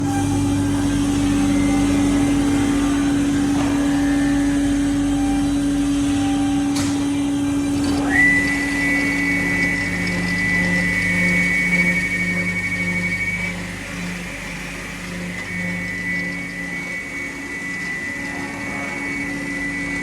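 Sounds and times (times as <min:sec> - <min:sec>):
high whine of spinning blade: 0:00.0 - 0:20.0
saw motor humming: 0:00.0 - 0:20.0.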